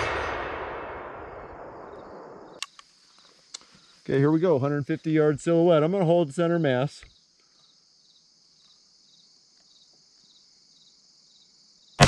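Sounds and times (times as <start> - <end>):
crickets chirping: 0.1 - 12.0.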